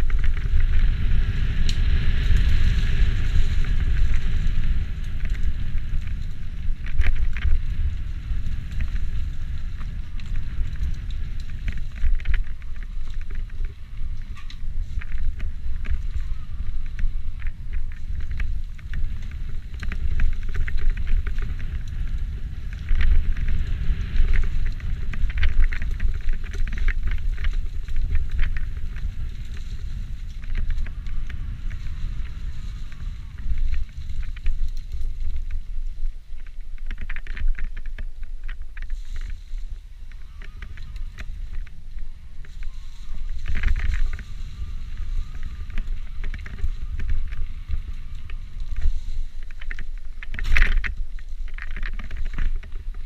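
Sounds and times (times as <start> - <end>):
bike rattles and clicks: 0.0 - 53.0
wind rumbling on microphone: 0.0 - 53.0.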